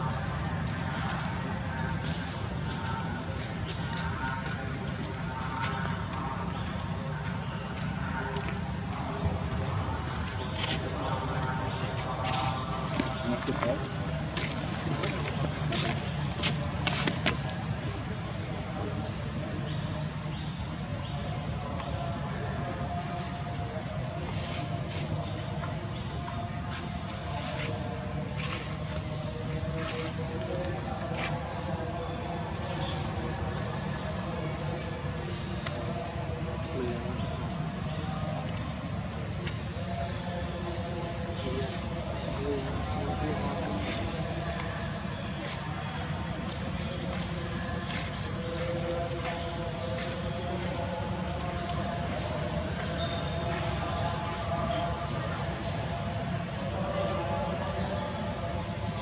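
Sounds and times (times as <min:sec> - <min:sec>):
insect chorus buzzing and chirping: 0:00.0 - 0:59.0.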